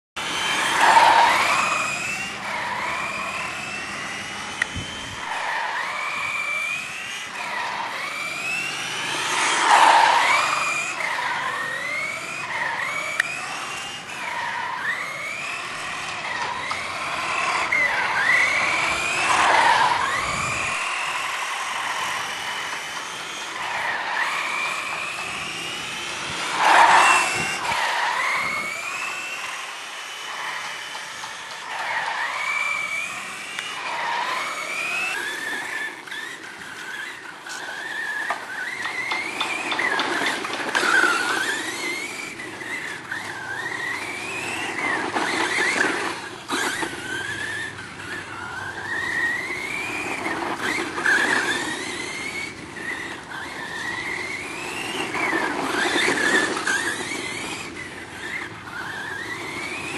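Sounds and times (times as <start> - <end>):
rc car motor revving: 0.2 - 59.9.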